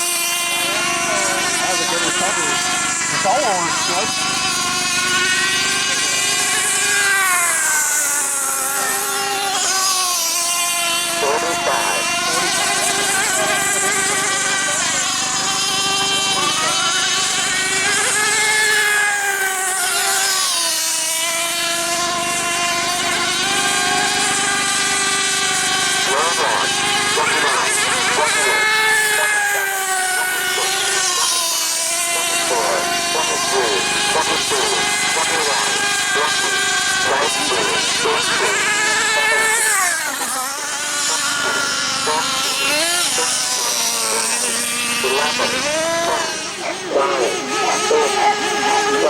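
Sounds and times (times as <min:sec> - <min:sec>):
model boat engine buzzing: 0:00.0 - 0:49.0.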